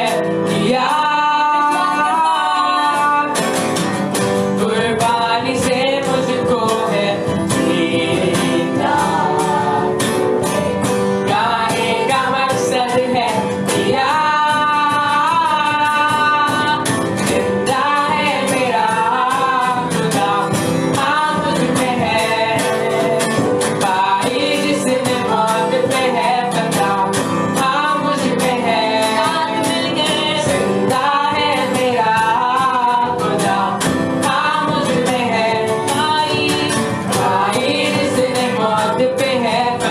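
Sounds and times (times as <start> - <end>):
acoustic guitar and band: 0.0 - 39.9
person singing: 0.0 - 39.9.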